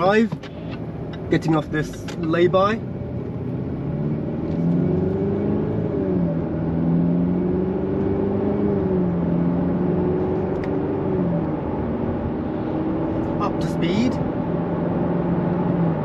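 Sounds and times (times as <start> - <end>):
car engine accelerating: 0.0 - 16.0
tyre and road noise hum: 0.0 - 16.0.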